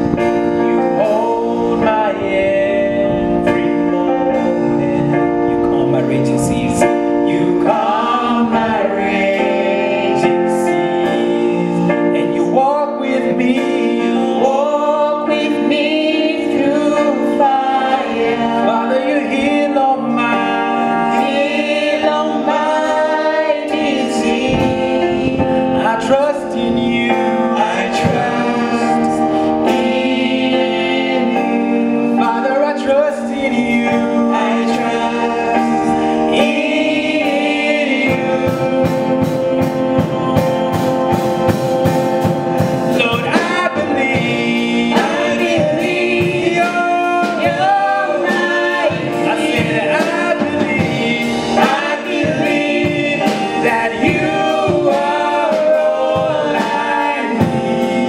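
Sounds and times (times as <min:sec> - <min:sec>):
drum kit: 0:00.0 - 0:58.0
keyboard chords: 0:00.0 - 0:58.0
men singing gospel song: 0:00.0 - 0:58.0.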